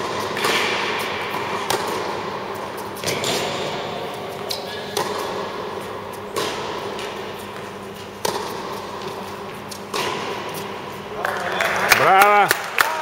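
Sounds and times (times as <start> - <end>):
tennis ball hit by racket: 0.0 - 10.7.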